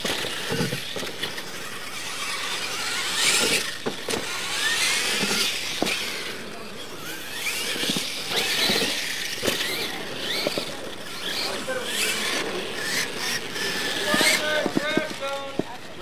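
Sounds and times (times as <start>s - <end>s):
electric motors whining: 0.0s - 16.0s
toy trucks bouncing and landing: 0.0s - 16.0s.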